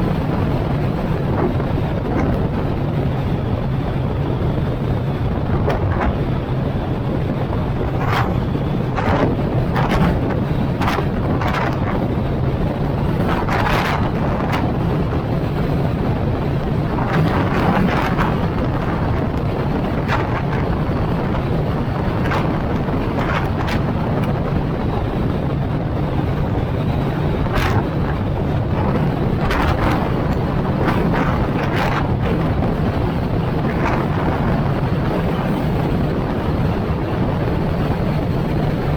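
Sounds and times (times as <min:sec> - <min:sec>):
low road rumble: 0:00.0 - 0:38.9
wind buffeting microphone: 0:00.0 - 0:38.9.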